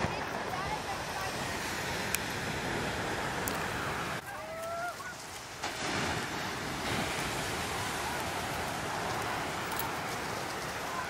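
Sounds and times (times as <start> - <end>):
waves breaking on sand: 0.0 - 11.0.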